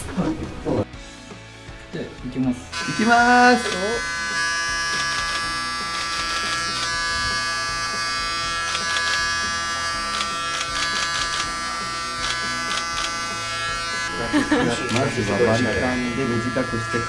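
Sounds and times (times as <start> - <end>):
background music: 0.0 - 17.0
hair clippers buzzing: 2.7 - 17.0.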